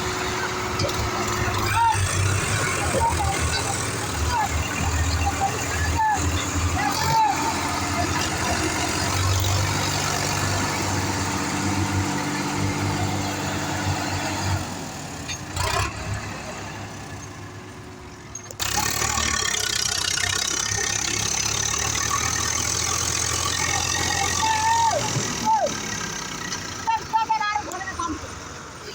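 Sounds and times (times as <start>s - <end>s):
tractor diesel engine pulsing: 0.0s - 28.9s.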